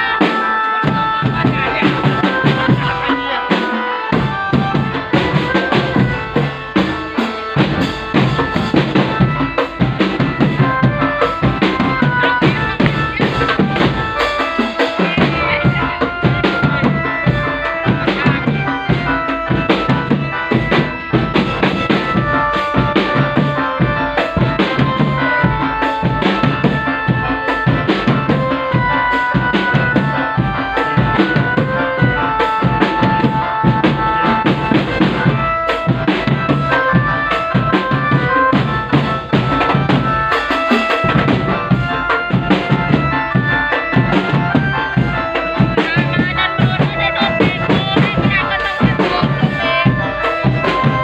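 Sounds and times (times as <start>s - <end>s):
fast drumming on bass and snare: 0.0s - 51.0s
melody line: 0.0s - 51.0s.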